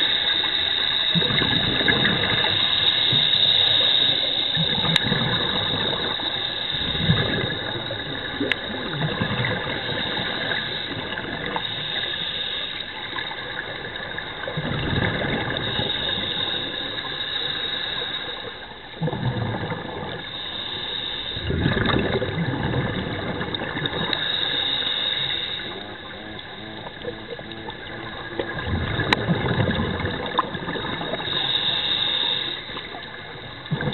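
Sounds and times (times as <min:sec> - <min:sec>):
steady hiss: 0:00.0 - 0:19.0, 0:19.9 - 0:29.1, 0:30.3 - 0:33.8
regulator bubbles gurgling underwater: 0:00.0 - 0:33.9.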